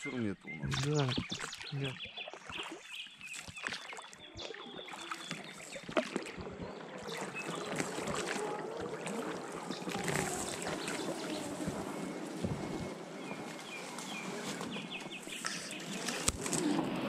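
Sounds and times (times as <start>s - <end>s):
oars splashing: 0.0s - 17.0s
water sloshing along hull: 0.0s - 17.0s.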